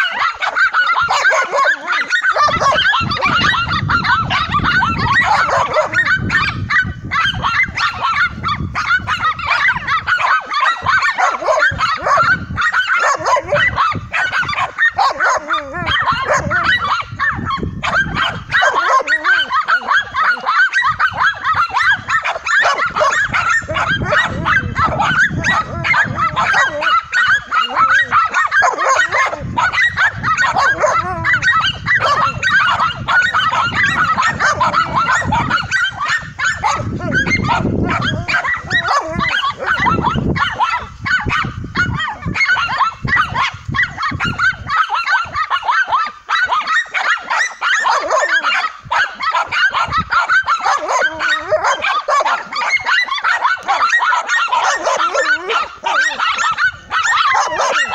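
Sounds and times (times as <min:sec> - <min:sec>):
dogs barking: 0:00.0 - 0:57.9.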